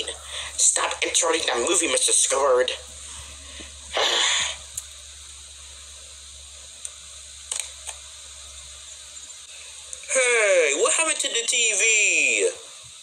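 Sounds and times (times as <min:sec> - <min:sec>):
burst of hissing noise: 0:00.0 - 0:10.7
low steady hum: 0:00.0 - 0:13.0.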